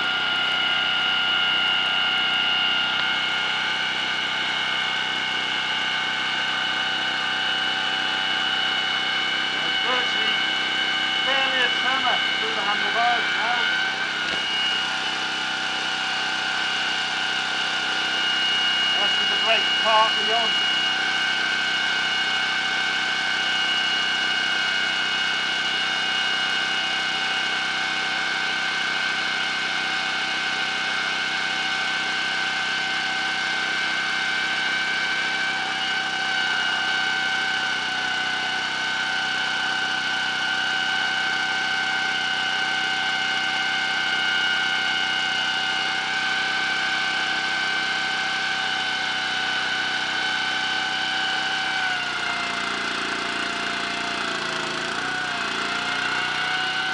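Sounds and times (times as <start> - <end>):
small petrol engine running: 0.0 - 56.9
steady whine: 0.0 - 56.9.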